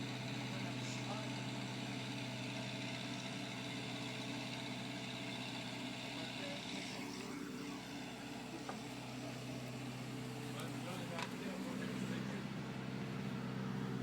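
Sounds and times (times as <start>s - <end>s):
machine engine idling hum: 0.0s - 14.0s.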